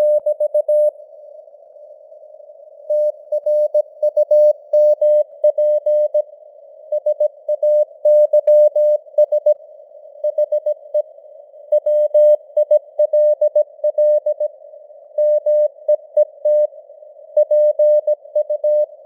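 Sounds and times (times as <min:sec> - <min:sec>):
faint radio hiss: 0:00.0 - 0:19.0.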